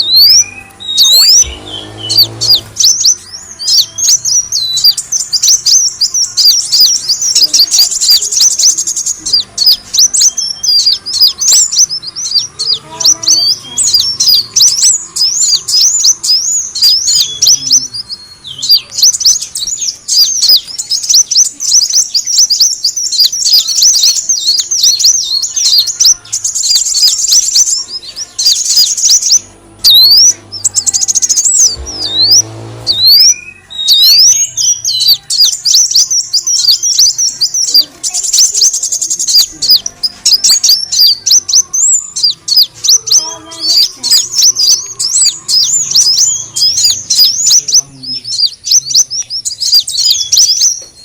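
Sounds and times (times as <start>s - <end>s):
sunbird high chirping calls: 0.0s - 51.0s.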